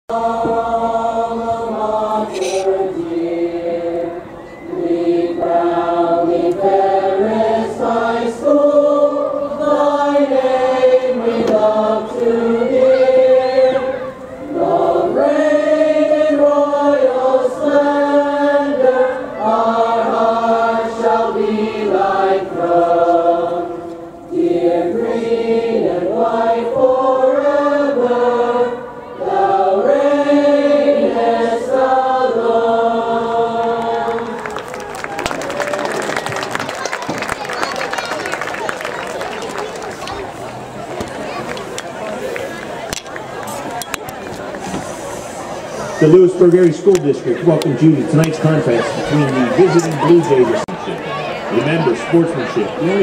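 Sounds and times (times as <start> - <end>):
choir singing held chords: 0.1 - 34.8, 44.6 - 53.0.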